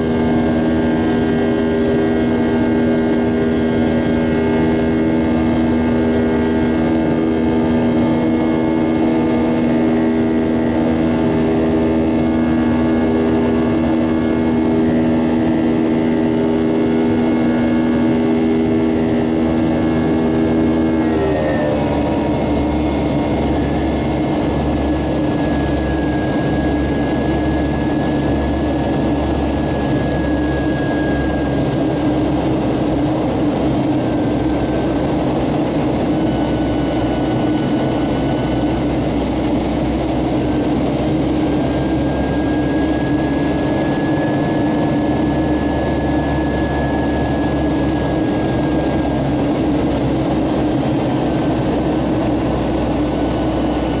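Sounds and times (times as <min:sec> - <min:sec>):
jet engine drone: 0:00.0 - 0:54.0.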